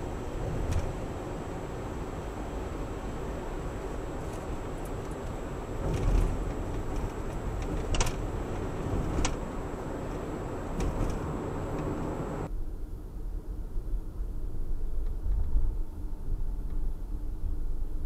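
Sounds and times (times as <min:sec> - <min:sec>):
road and engine rumble: 0:00.0 - 0:18.0.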